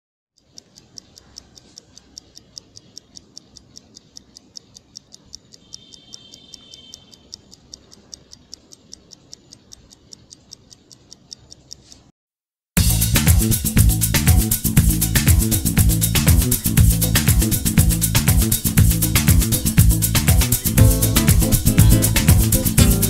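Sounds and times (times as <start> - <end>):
mechanical watch ticking: 0.4 - 12.1, 12.8 - 23.0.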